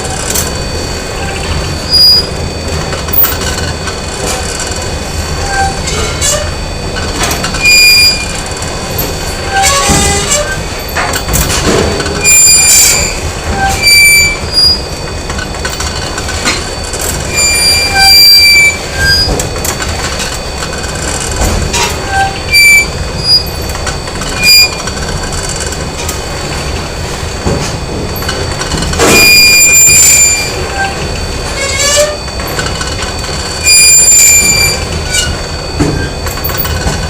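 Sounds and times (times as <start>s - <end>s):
high-pitched metallic squeals: 0.0s - 37.0s
machinery rumble: 0.0s - 37.0s.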